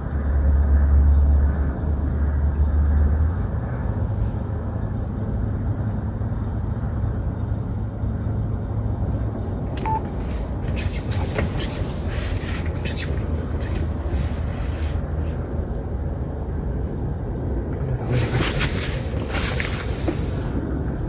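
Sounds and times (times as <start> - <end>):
low rumble with hiss: 0.0 - 21.0.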